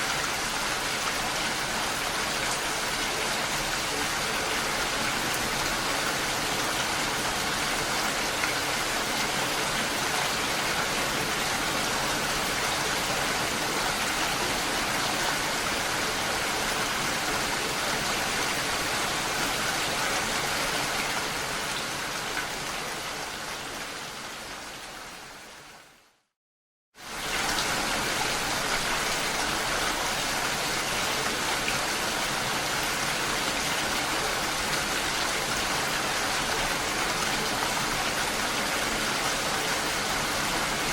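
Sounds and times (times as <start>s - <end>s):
heavy rainfall: 0.0s - 26.2s, 27.0s - 40.9s.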